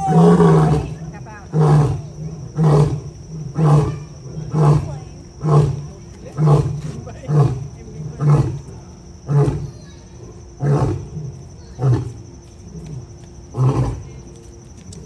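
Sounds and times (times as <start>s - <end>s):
lion roaring: 0.0s - 9.7s, 10.6s - 14.2s.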